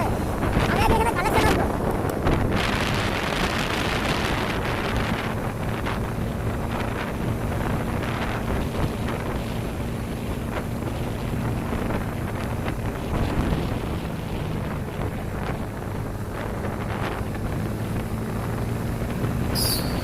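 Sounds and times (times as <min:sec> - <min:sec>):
motorcycle engine humming: 0:00.0 - 0:20.0
wind buffeting microphone: 0:00.0 - 0:20.0.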